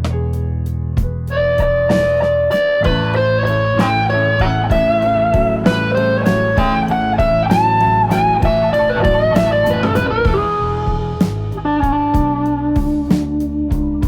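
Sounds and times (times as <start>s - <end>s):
bluesy electric guitar music: 0.0s - 14.0s.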